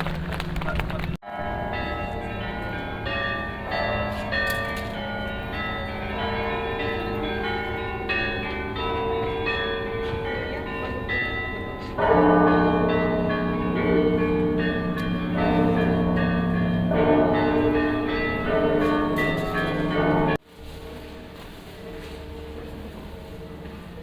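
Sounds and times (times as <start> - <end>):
deep heavy bells: 0.0 - 24.0
small church bells pealing: 1.2 - 24.0.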